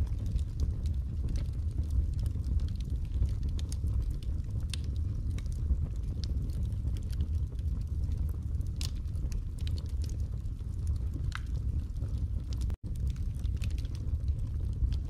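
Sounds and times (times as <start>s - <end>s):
burning logs crackling and popping: 0.0s - 15.0s
fire flames rumbling: 0.0s - 15.0s.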